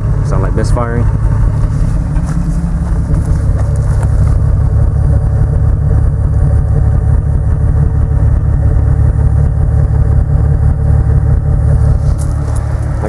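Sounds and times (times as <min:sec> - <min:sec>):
car exhaust idling rumble: 0:00.0 - 0:13.0.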